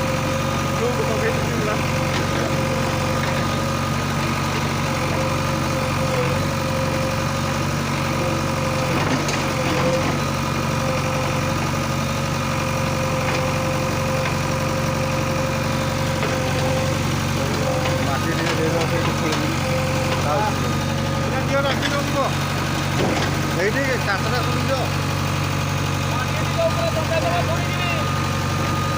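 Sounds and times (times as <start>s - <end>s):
diesel engines idling: 0.0s - 28.9s.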